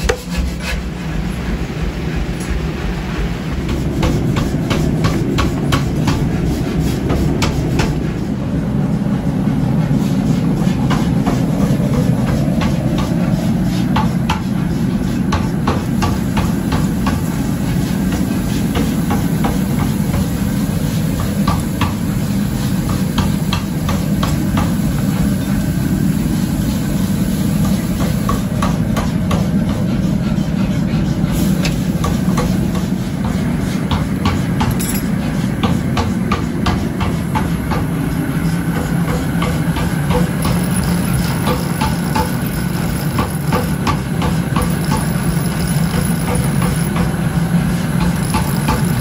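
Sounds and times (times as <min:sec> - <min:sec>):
low machinery rumble: 0:00.0 - 0:45.7.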